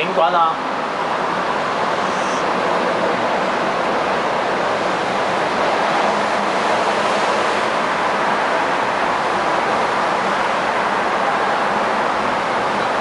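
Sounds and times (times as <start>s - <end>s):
distant train running: 0.0s - 13.0s
railway platform rumble and hiss: 0.0s - 13.0s.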